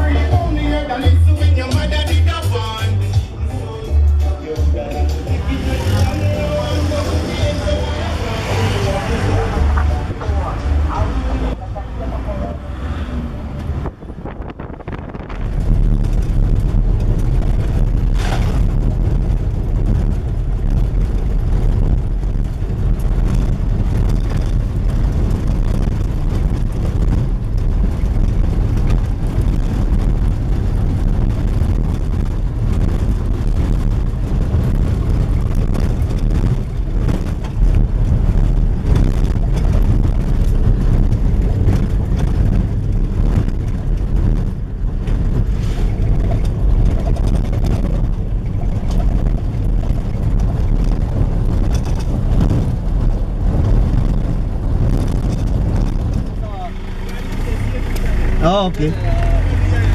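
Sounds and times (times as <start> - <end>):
vehicle rumbling on dirt road: 0.0 - 59.9.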